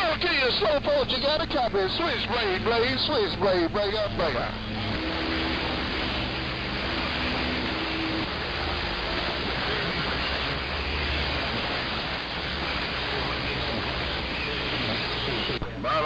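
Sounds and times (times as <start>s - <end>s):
low steady tones: 0.0s - 16.0s
radio static hiss: 0.0s - 16.0s.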